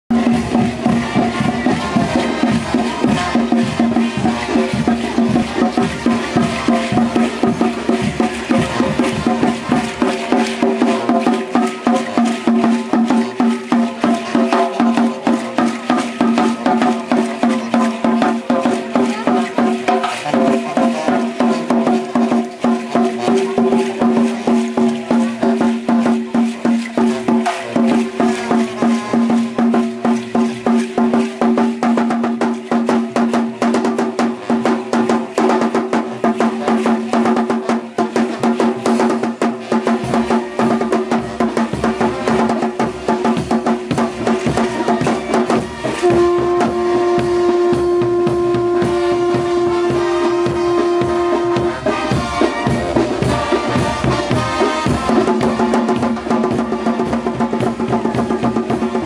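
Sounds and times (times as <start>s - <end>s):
drums beating fast: 0.1s - 59.0s.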